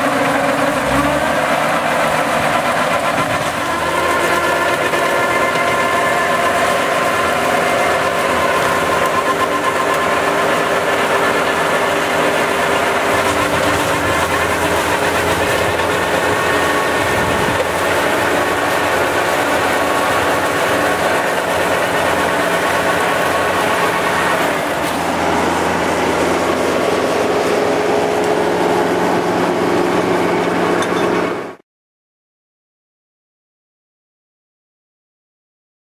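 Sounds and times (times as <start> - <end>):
tractor and mulcher shredding brush: 0.0 - 31.6.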